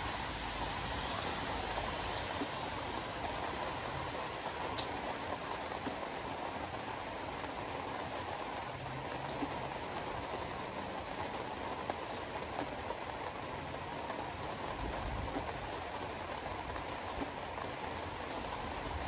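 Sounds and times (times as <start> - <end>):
tyres hissing on wet road: 0.0 - 19.0.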